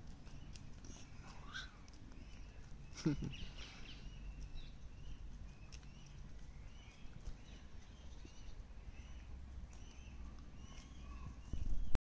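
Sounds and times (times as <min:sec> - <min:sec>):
bird chirping: 0:00.0 - 0:12.0
low steady rumble: 0:00.0 - 0:12.0.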